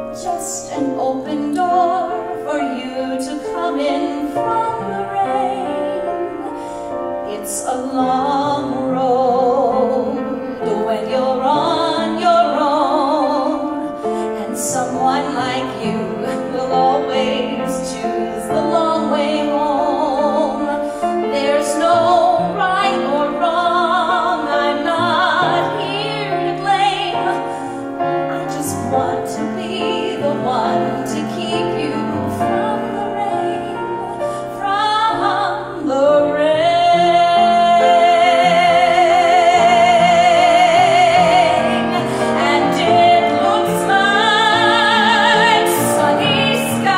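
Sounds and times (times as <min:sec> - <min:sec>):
woman singing with vibrato: 0:00.0 - 0:06.6, 0:07.2 - 0:27.5, 0:28.3 - 0:46.9
piano: 0:00.0 - 0:46.9.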